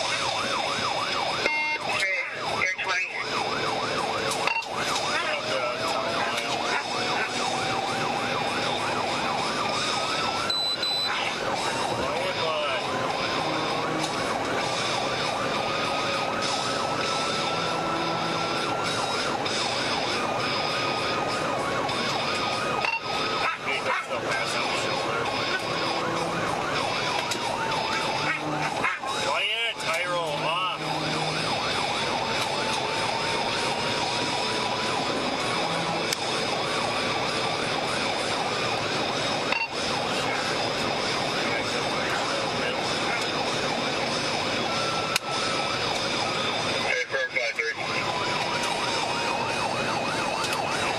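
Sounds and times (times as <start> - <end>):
police siren yelping: 0.0 - 50.9
road noise: 0.0 - 50.9.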